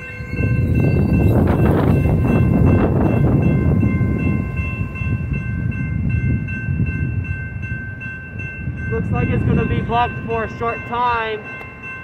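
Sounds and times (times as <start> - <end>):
crossing warning bell ringing: 0.0 - 12.0
train rumbling: 0.0 - 12.0.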